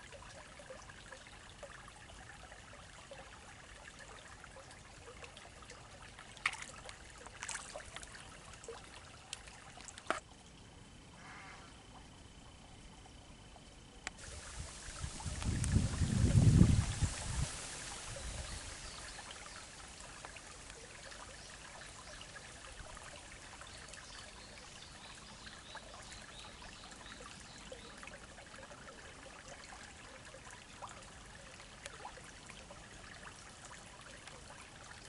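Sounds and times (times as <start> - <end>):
trickle of water in a stream: 0.0 - 35.0.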